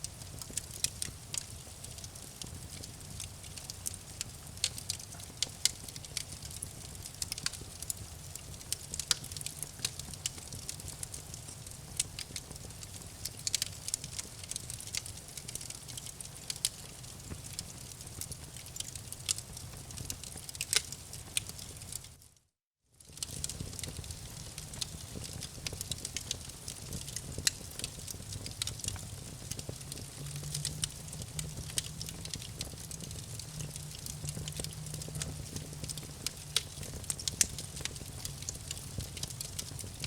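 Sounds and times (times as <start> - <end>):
low rumble of fire: 0.0 - 22.3, 23.0 - 40.0
campfire crackling and popping: 0.1 - 22.2, 23.0 - 40.0.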